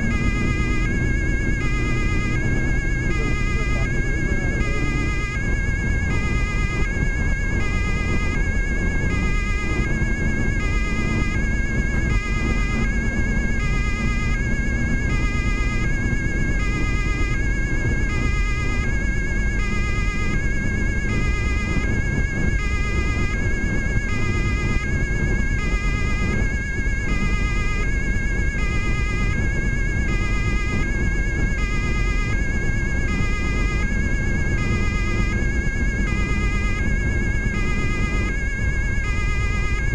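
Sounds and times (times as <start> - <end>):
road and engine noise: 0.0 - 39.9
two-tone police siren: 0.0 - 39.9.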